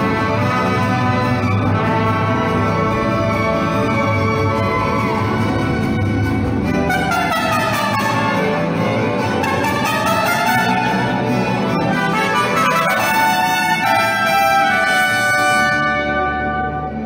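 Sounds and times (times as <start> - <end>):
strummed guitars: 0.0 - 17.0
trumpets: 0.0 - 17.0
violins playing melody: 0.0 - 17.0.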